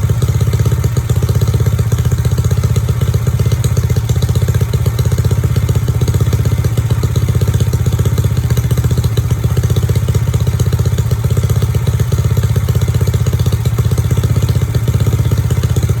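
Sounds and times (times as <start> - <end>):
scooter engine idling: 0.0 - 16.0.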